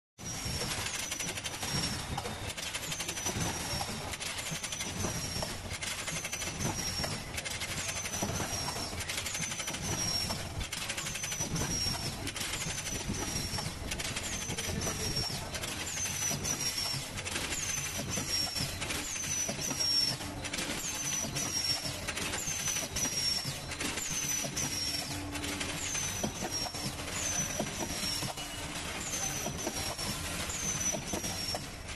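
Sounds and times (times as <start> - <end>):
mechanical clatter of clicks: 0.6 - 31.9.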